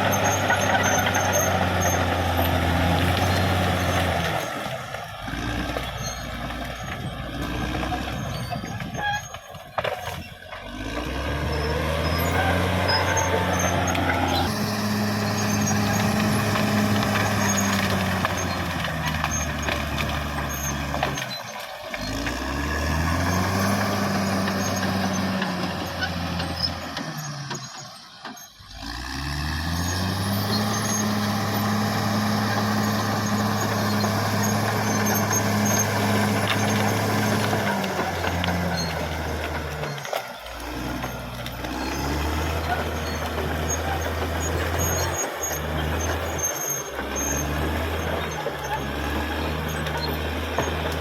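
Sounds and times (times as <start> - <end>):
bulldozer diesel engine running hard: 0.0 - 51.0.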